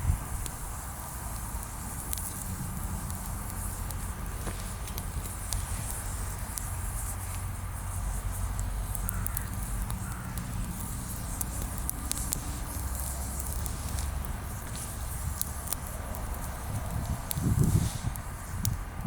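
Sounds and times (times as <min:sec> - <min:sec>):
bonfire crackling and popping: 0:00.0 - 0:19.0
low fire rumble: 0:00.0 - 0:19.0.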